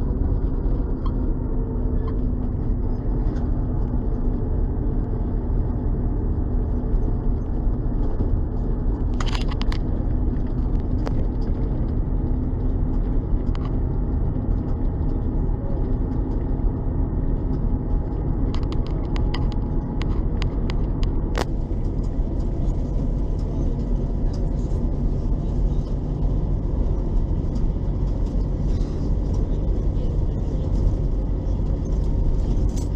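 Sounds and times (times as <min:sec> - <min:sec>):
bus engine rumbling: 0:00.0 - 0:32.9.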